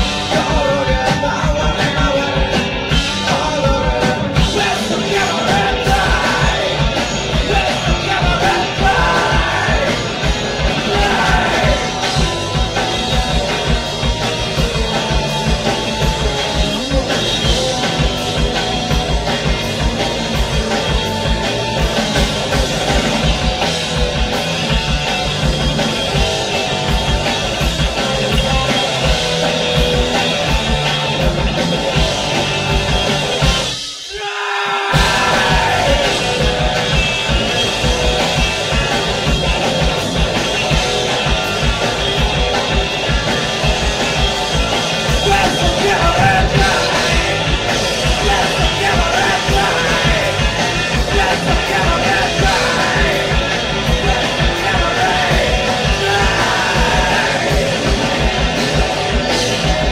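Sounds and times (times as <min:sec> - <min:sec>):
dense guitars and bass: 0:00.0 - 0:34.3, 0:34.9 - 0:59.9
pounding drum kit: 0:00.0 - 0:59.9.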